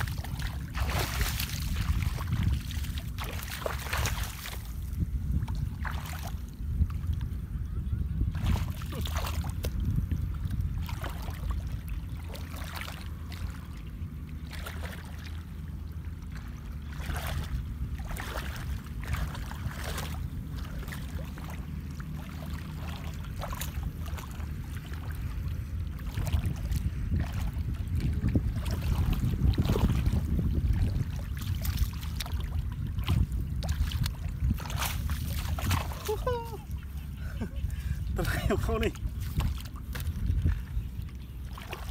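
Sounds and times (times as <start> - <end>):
muddy water splashing: 0.0 - 41.9
steady low rumble: 0.0 - 41.9.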